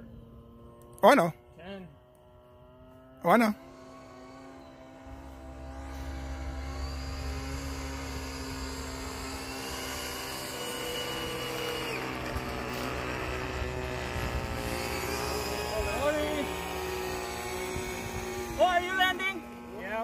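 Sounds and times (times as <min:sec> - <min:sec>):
model airplane motor droning: 0:00.0 - 0:20.0.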